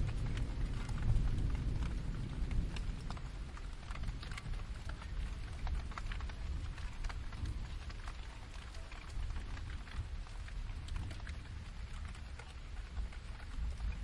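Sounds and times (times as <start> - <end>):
constant low rumble: 0.0 - 14.0
steady rainfall with drips: 0.0 - 14.0.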